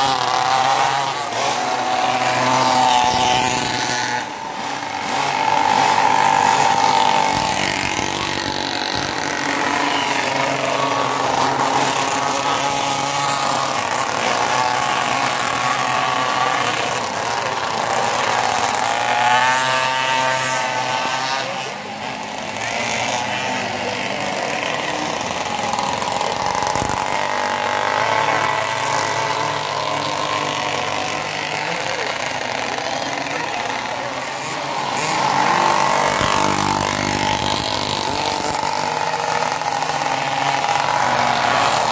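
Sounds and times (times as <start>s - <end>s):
two-stroke engines buzzing: 0.0s - 41.9s.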